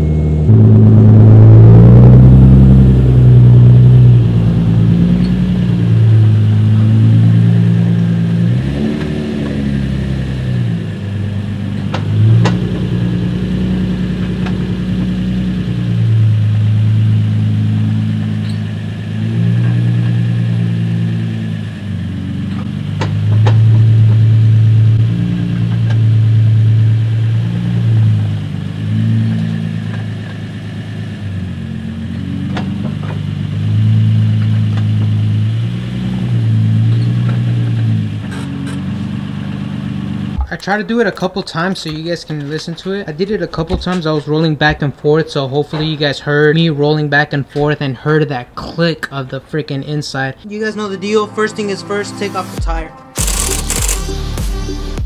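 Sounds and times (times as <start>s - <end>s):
car engine idling: 0.0s - 48.6s, 53.2s - 54.4s.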